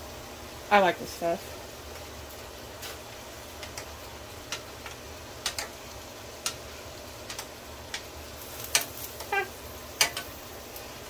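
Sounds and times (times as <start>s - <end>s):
food hissing on stove: 0.0s - 11.0s.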